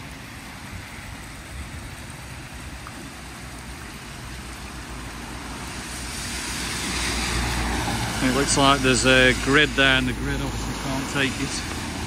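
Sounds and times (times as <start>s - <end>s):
floodwater rushing into drain: 0.1s - 12.0s.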